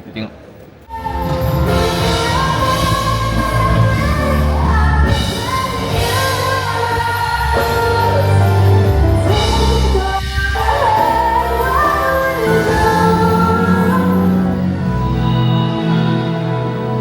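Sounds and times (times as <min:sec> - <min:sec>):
band playing: 0:00.9 - 0:17.0
person singing pop song: 0:00.9 - 0:17.0.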